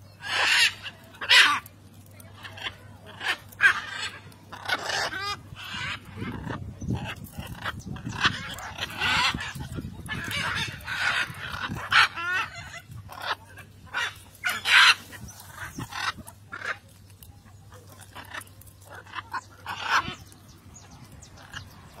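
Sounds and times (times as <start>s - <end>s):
macaws squawking: 0.1s - 22.0s.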